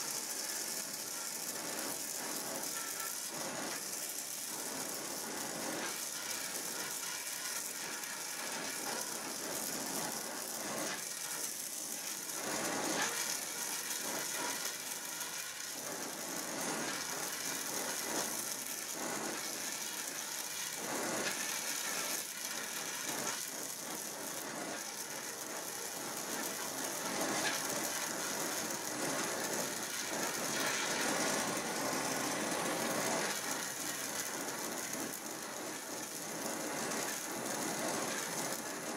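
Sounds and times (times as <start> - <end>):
torch flame hissing: 0.0 - 38.9
weld pool crackling: 0.0 - 38.9.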